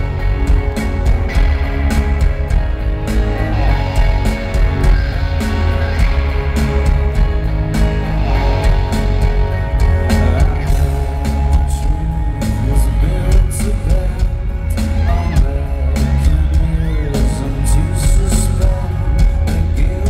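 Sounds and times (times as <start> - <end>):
live rock band playing: 0.0 - 20.0
person singing: 3.1 - 20.0.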